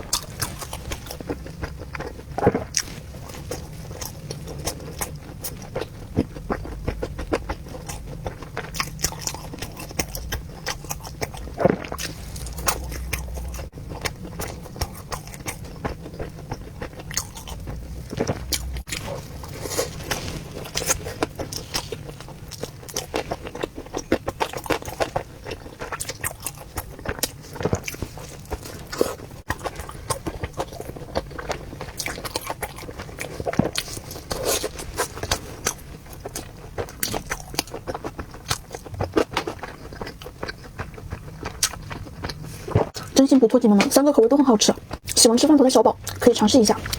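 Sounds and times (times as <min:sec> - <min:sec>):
person chewing: 0:00.0 - 0:43.2, 0:45.9 - 0:46.9.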